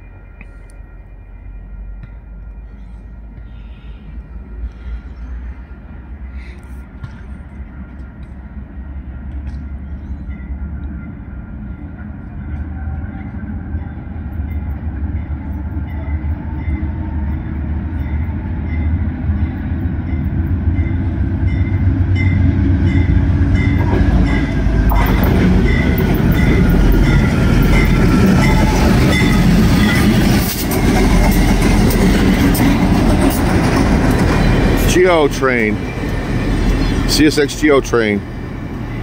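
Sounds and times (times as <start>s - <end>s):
diesel locomotive engine rumble: 0.0s - 39.0s.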